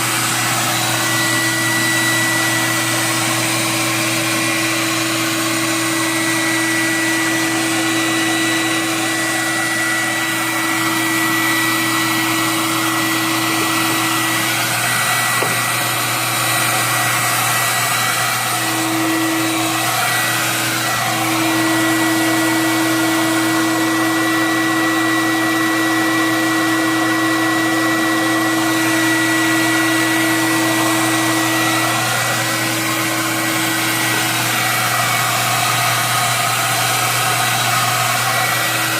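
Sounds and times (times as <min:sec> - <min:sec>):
popcorn popper fan whirring: 0:00.0 - 0:38.9.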